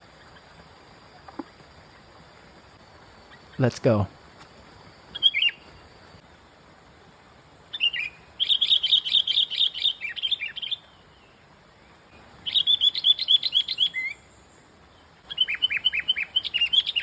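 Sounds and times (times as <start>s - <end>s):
small bird chirping: 0.0s - 6.4s, 7.6s - 17.0s.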